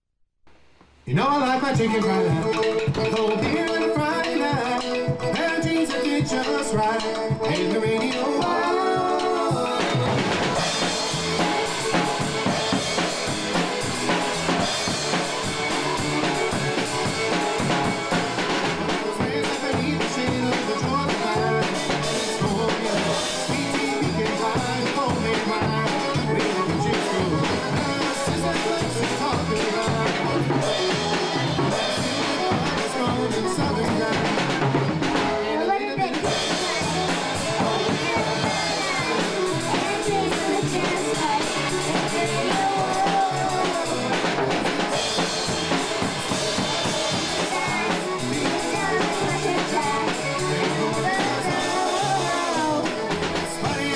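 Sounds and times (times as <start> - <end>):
child playing drum kit: 0.6 - 53.9
recorded country band music: 1.0 - 53.9.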